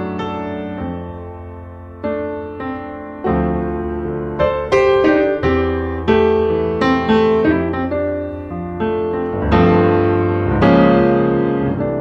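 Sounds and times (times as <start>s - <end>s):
slow gentle piano music: 0.0s - 12.0s.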